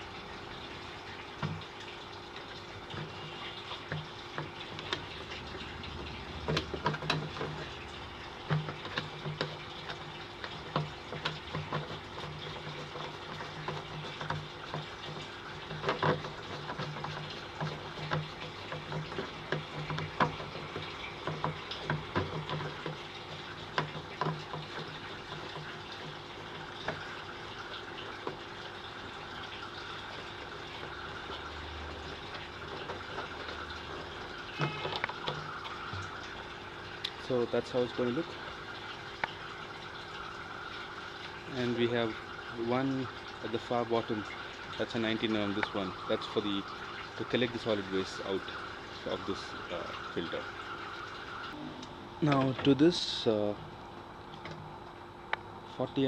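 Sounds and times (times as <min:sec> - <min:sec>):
steady rush like running water: 0:00.0 - 0:56.0.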